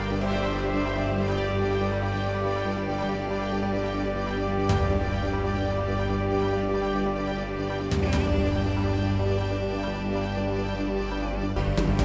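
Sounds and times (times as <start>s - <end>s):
slow sustained chord: 0.0s - 12.0s.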